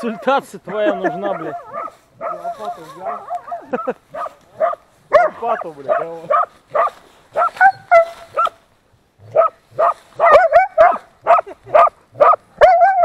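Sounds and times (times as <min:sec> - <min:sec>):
dog barking: 0:00.0 - 0:08.6, 0:09.3 - 0:13.0.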